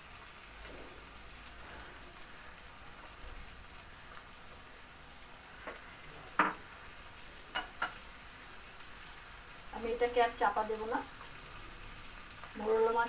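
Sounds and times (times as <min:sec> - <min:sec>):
fish frying in oil: 0:00.0 - 0:13.0.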